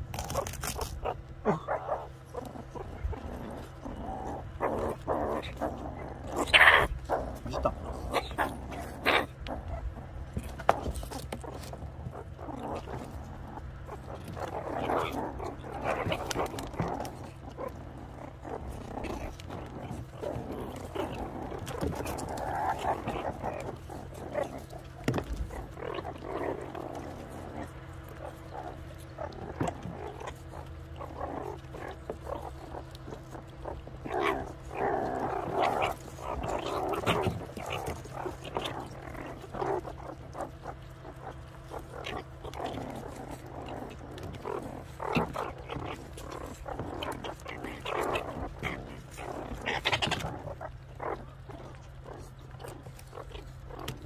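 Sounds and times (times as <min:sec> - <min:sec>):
meerkats growling and chattering: 0:00.0 - 0:54.0.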